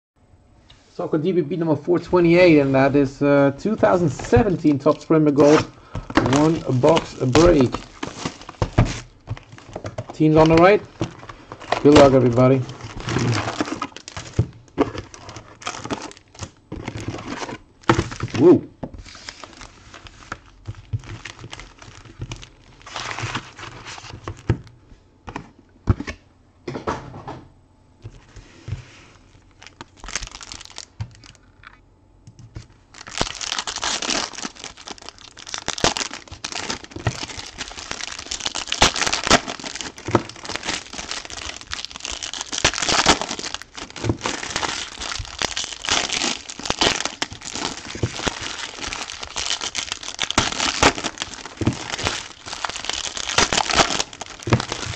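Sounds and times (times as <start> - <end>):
foil wrappers crinkling: 2.0 - 24.7, 29.0 - 31.8, 32.6 - 54.9.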